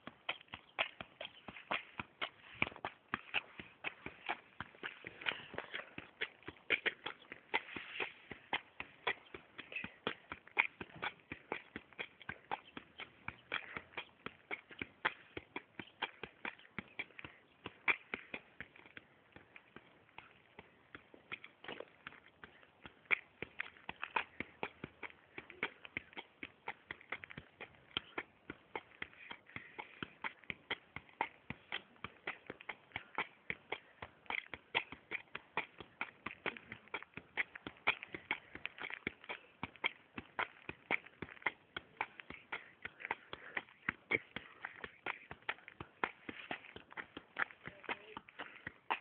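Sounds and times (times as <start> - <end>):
shoe tapping football: 0.0 - 49.0.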